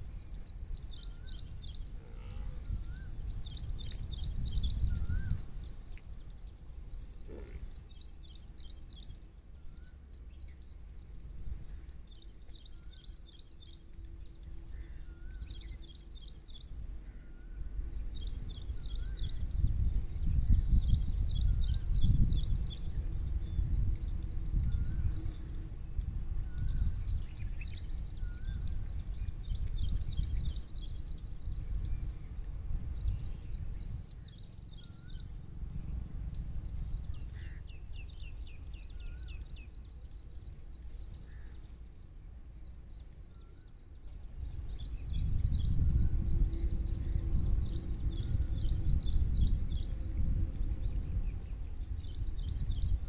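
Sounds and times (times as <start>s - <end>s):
small birds chirping: 0.0s - 53.0s
low rumble: 10.4s - 53.0s.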